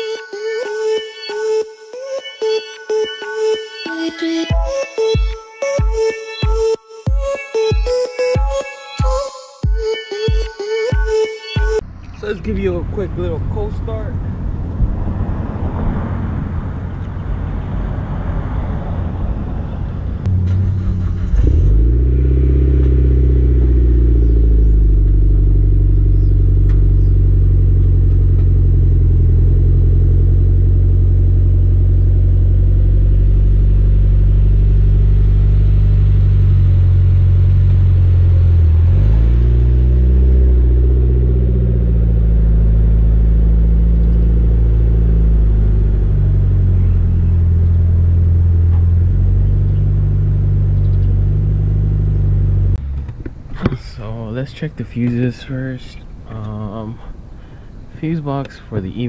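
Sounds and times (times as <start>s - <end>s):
car engine starting and idling: 11.7s - 59.0s.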